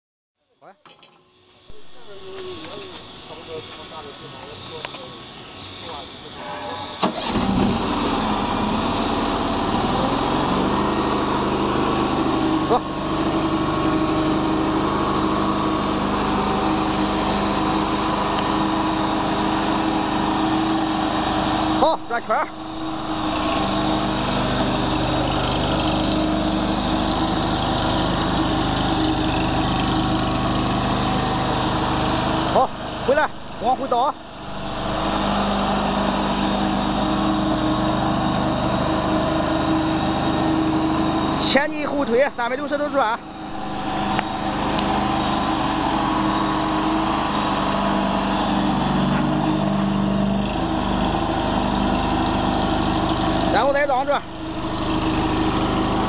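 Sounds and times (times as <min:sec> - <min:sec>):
small loader engine running: 0:01.5 - 0:56.0.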